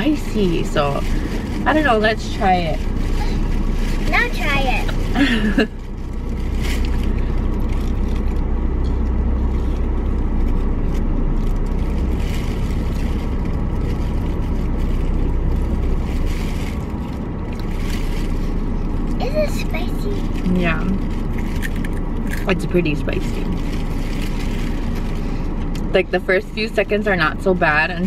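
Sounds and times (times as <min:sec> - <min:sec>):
faint rustles: 0:00.0 - 0:26.0
car cabin low rumble: 0:00.0 - 0:28.0.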